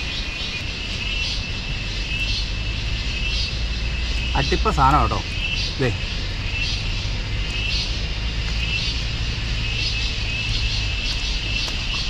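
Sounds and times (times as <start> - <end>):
shrill insect chirring: 0.0 - 12.0
steady low rumble: 0.0 - 12.0.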